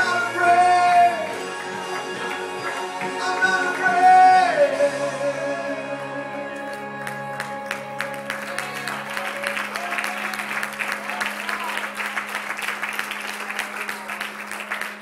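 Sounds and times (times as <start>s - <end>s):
congregation applauding: 0.0s - 5.0s, 6.6s - 15.0s
backing music: 0.0s - 15.0s.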